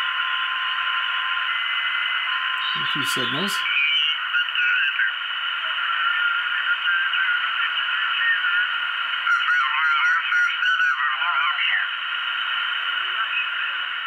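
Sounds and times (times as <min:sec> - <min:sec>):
radio band hiss: 0:00.0 - 0:14.0
warbling sideband radio voices: 0:01.5 - 0:14.0.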